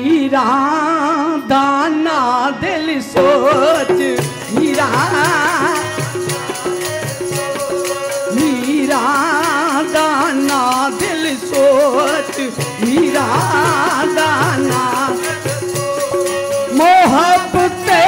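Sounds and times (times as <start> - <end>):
harmonium holding a note: 0.0 - 18.0
tabla and clappers beat: 3.2 - 18.0.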